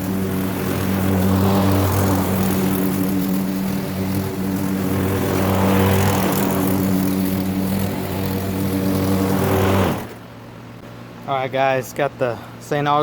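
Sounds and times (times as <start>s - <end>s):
lawn mower running: 0.0s - 10.8s.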